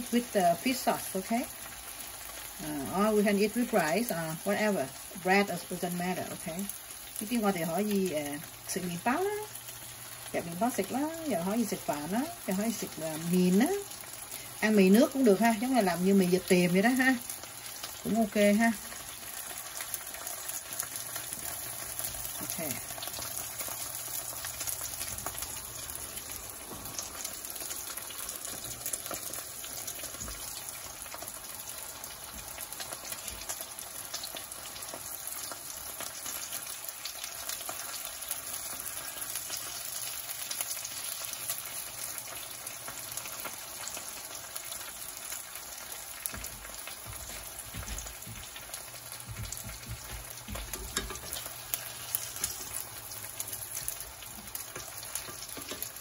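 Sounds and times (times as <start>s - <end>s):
oil sizzling in a frying pan: 0.0s - 56.0s.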